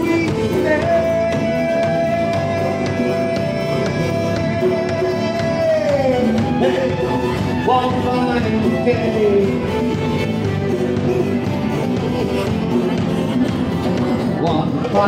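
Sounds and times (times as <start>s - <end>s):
live folk band: 0.0s - 15.0s
sliding lead melody: 0.0s - 15.0s.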